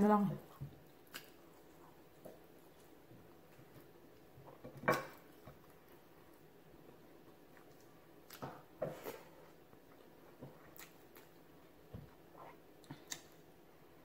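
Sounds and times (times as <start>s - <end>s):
person chewing food: 0.4s - 13.9s.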